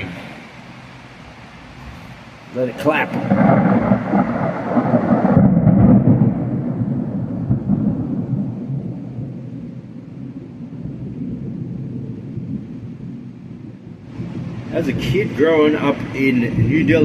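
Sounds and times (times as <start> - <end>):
thunder rumbling: 1.3 - 17.0.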